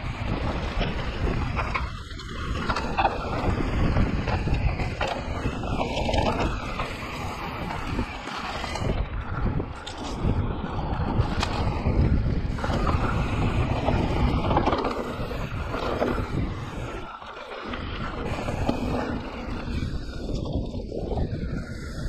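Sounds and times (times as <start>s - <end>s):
bike rattling: 0.0s - 22.0s
tyres rolling over dirt: 0.0s - 22.0s
wind on microphone: 0.0s - 22.0s.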